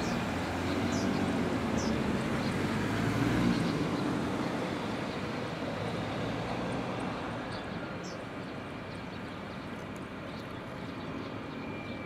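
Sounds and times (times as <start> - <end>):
passing vehicle engine hum: 0.0 - 12.0.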